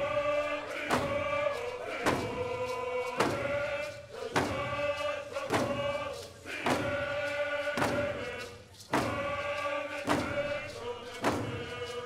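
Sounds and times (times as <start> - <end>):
drum beats: 0.0 - 12.0
group singing slow chant: 0.0 - 12.0.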